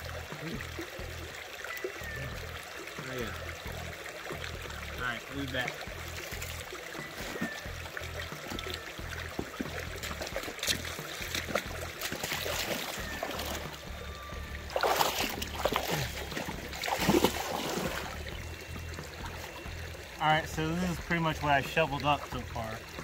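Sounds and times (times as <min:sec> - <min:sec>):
creek water running: 0:00.0 - 0:23.0.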